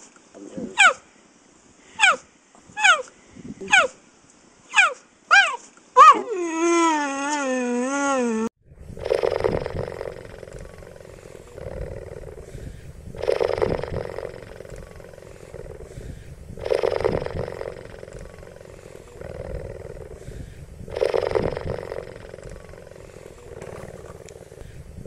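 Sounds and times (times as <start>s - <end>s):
cheetah rasping vocalization: 4.8s - 25.0s.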